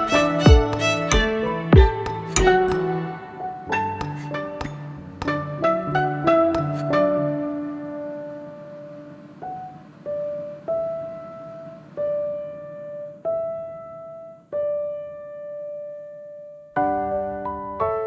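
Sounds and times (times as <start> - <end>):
slow gentle piano: 0.0 - 18.0.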